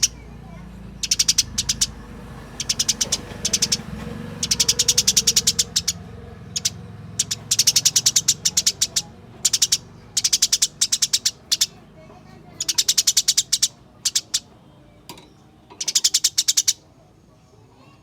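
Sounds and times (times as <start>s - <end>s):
sparrow chirping in fast rolls: 0.0s - 14.6s, 15.8s - 17.0s.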